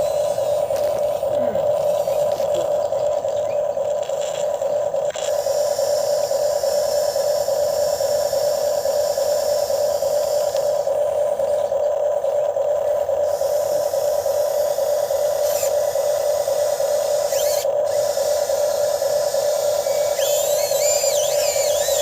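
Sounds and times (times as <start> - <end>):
toy excavator motor whining: 0.0 - 22.0.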